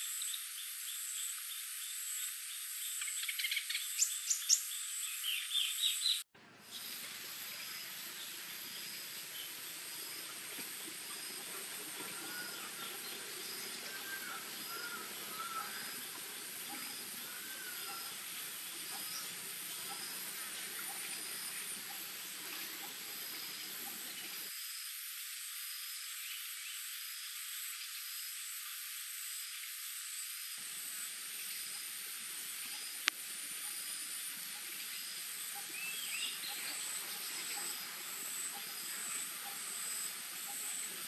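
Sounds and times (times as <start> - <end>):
insects chirping drone: 0.0 - 41.0.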